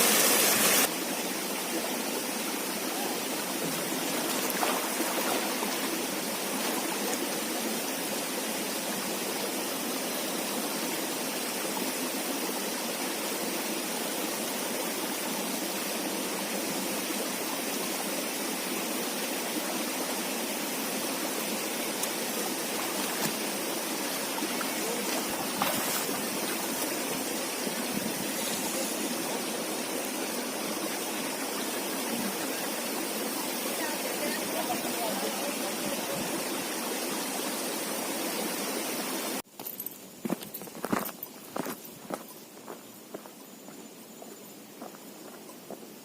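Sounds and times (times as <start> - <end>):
river flowing: 0.0 - 46.0.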